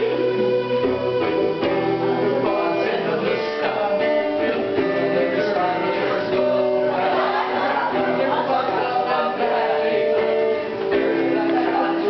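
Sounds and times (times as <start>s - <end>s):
electronic keyboard melody: 0.0s - 12.0s
guitar playing: 0.0s - 12.0s.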